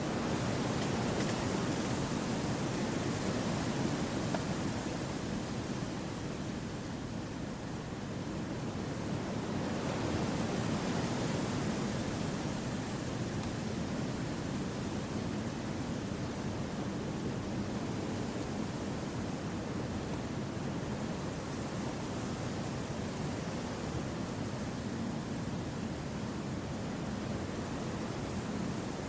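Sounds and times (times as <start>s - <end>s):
wind through forest trees: 0.0s - 29.0s.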